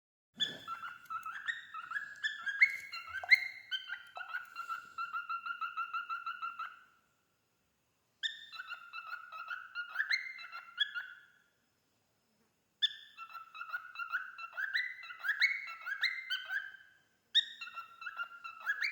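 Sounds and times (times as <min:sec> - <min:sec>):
cockatiel whistling song: 0:00.4 - 0:06.9, 0:08.2 - 0:11.3, 0:12.8 - 0:18.9.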